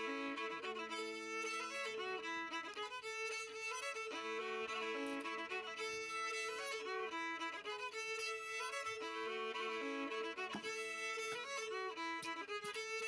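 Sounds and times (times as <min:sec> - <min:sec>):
fiddle music: 0:00.0 - 0:13.0.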